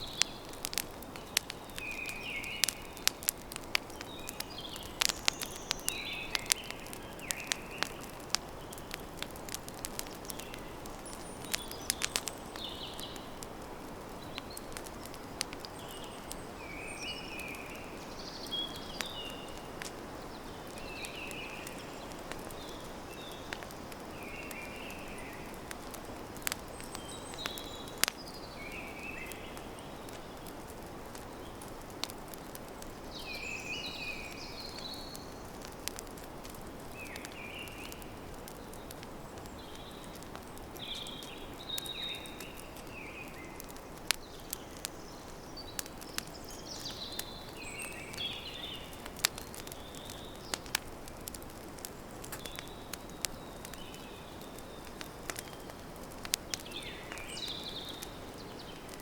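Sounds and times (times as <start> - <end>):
small birds chirping: 0.0 - 59.0
wood fire crackling and popping: 0.0 - 59.0.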